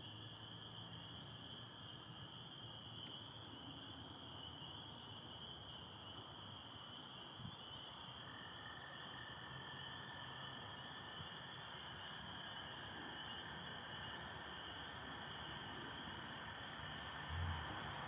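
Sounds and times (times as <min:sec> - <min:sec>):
chorus of frogs peeping: 0:00.0 - 0:18.0.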